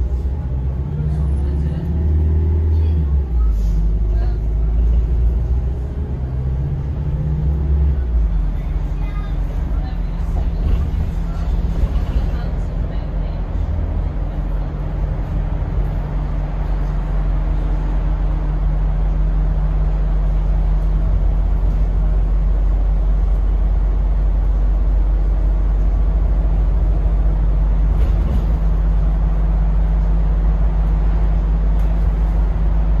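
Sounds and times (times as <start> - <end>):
bus drivetrain rumble and hum: 0.0 - 33.0.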